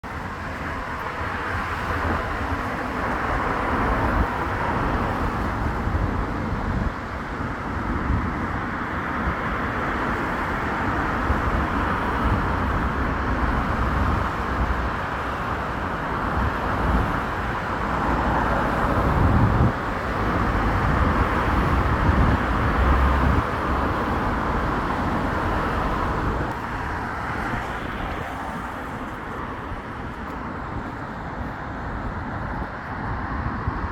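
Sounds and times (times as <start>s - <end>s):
road traffic passing: 0.0s - 33.9s.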